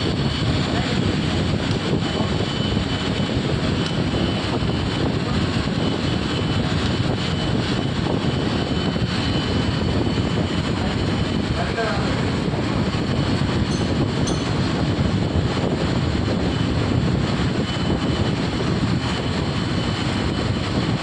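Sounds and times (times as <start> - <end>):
lathe drone: 0.0 - 21.0.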